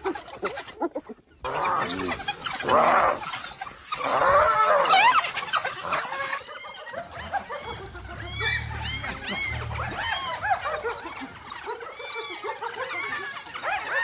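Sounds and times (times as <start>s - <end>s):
wild dogs squealing and chirping: 0.0s - 14.0s.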